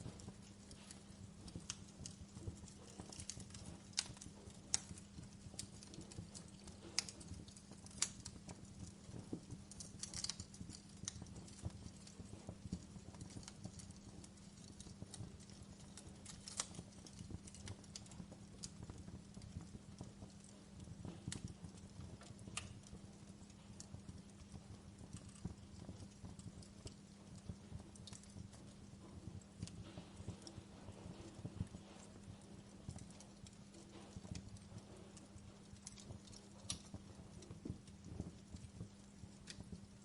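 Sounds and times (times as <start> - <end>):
faint steady hum: 0.0 - 40.0
low fire rumble: 0.0 - 40.0
wood fire crackling: 0.0 - 40.0.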